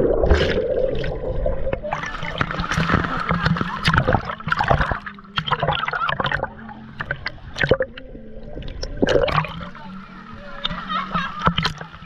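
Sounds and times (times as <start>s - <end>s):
water splashing and bubbling: 0.0s - 12.0s.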